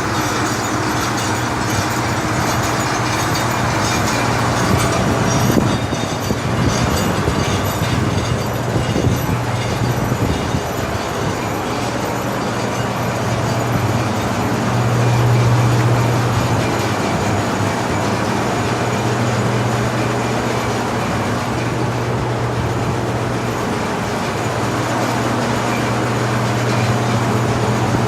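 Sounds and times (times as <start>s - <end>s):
dryer blower droning: 0.0s - 28.0s.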